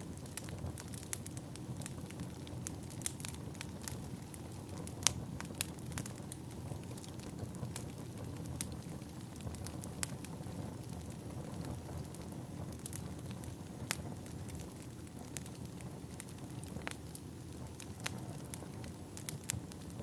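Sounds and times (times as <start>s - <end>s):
firewood crackling and popping: 0.0s - 20.0s
low rumble of flames: 0.0s - 20.0s.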